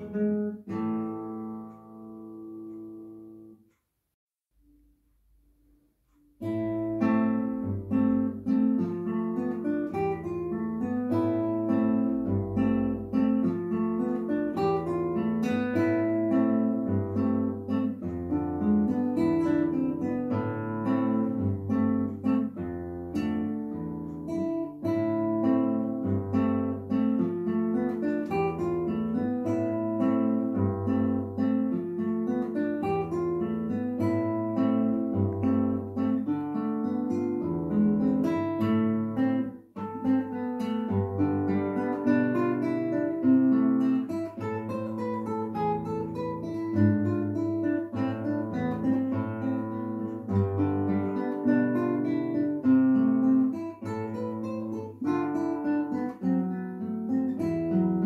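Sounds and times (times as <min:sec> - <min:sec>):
classical guitar fingerstyle: 0:00.0 - 0:03.8, 0:04.6 - 0:58.0.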